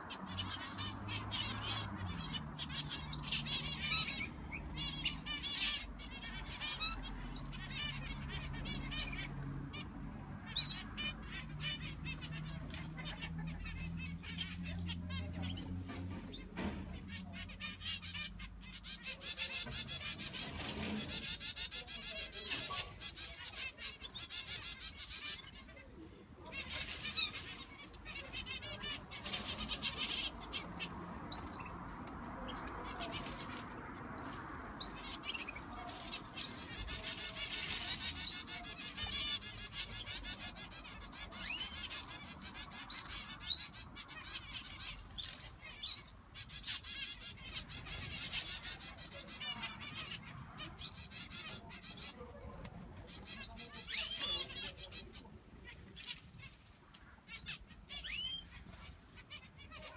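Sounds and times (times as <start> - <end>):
finches chirping and twittering: 0.0 - 9.9, 10.5 - 31.8, 34.2 - 56.2, 57.3 - 58.6
fast dense trilling birdsong: 0.0 - 56.5, 57.3 - 59.9.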